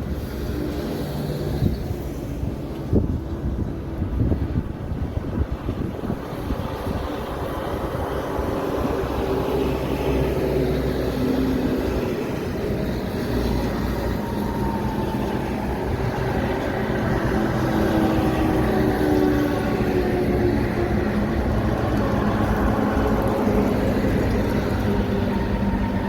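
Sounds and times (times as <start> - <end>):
truck engine drone: 0.0 - 26.0
tyre and road noise: 0.0 - 26.0.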